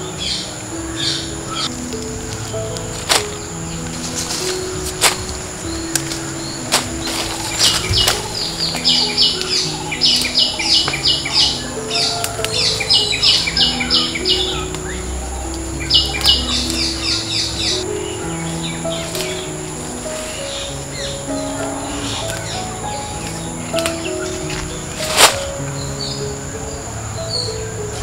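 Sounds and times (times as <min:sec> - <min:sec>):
bird chirping: 0:00.0 - 0:28.0
soft background music: 0:00.0 - 0:28.0.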